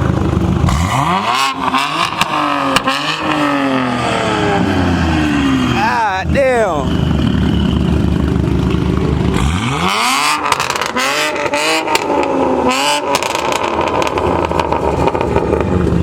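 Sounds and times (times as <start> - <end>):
car engine revving with crackling: 0.0 - 16.0.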